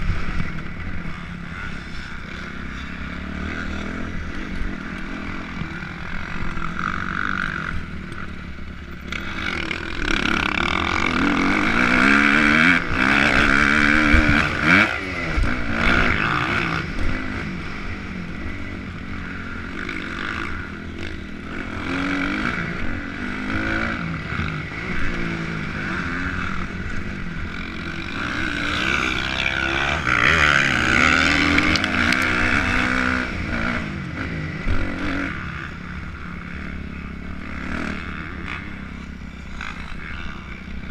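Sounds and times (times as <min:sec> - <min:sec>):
dirt bike engine revving: 0:00.0 - 0:40.9
steady rushing noise: 0:00.0 - 0:40.9.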